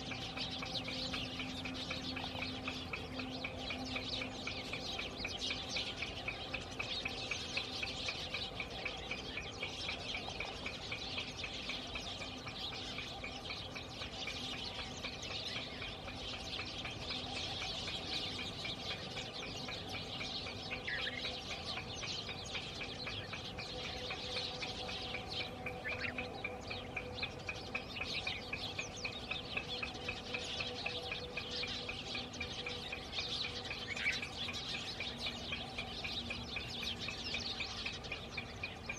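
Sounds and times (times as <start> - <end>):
birds chirping in chorus: 0.0 - 38.9
down-slurred bird calls: 0.0 - 38.9.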